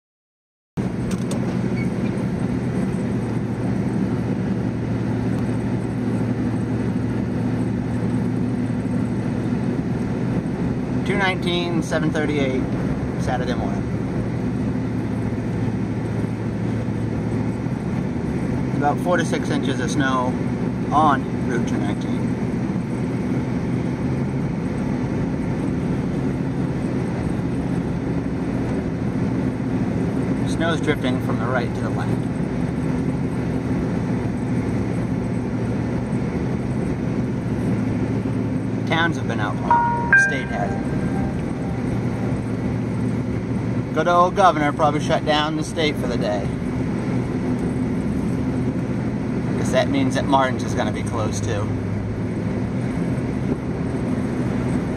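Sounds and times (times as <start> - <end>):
truck engine and road drone: 0.8 - 54.9.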